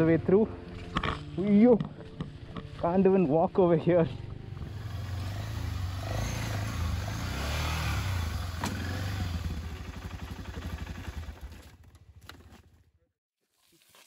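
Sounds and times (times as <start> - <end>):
off-road motorcycle engine: 0.0 - 13.1.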